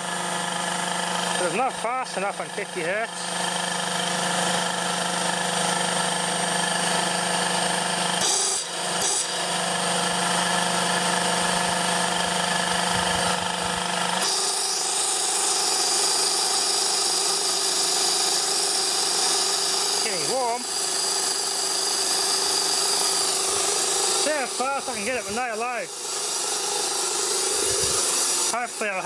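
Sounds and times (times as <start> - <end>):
electric motor humming and whining: 0.0 - 29.0.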